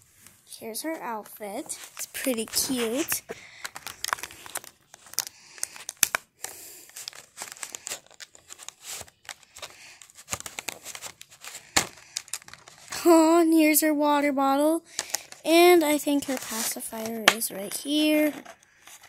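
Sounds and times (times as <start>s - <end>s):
plastic packaging crinkling: 1.0s - 13.2s, 14.9s - 19.0s.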